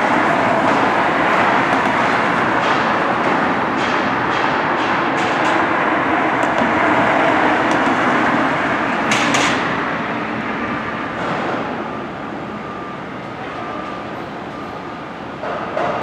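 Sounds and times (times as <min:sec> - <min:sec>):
train rumbling and rattling on track: 0:00.0 - 0:16.0.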